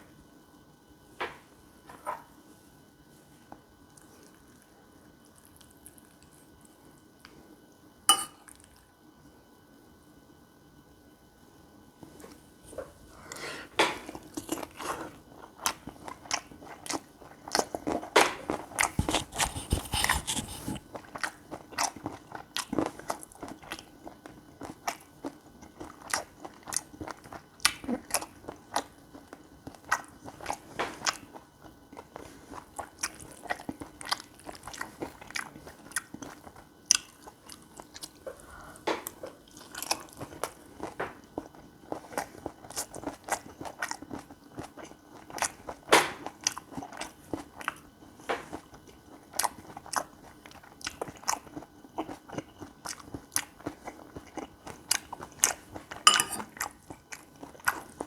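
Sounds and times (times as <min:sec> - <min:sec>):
chewing and biting food: 0:03.8 - 0:07.2, 0:12.3 - 0:58.0.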